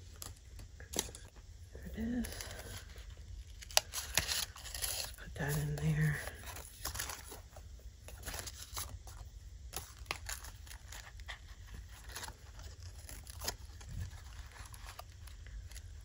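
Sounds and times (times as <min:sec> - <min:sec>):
paper rustling and crinkling: 0:02.0 - 0:16.0.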